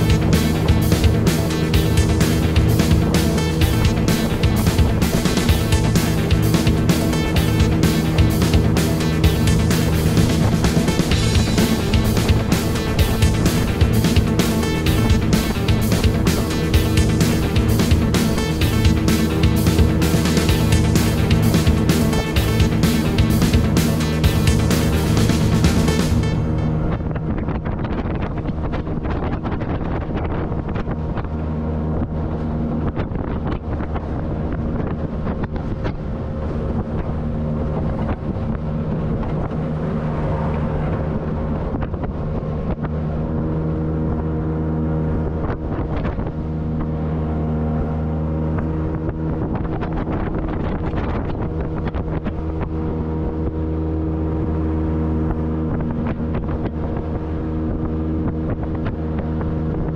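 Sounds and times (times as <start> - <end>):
outboard motor running: 0.0 - 59.9
wind noise on microphone: 0.0 - 59.9.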